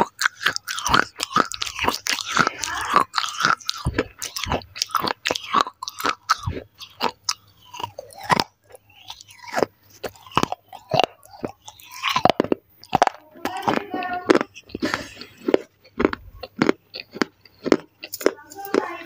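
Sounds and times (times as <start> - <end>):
chewing and crunching clay: 0.0 - 19.0.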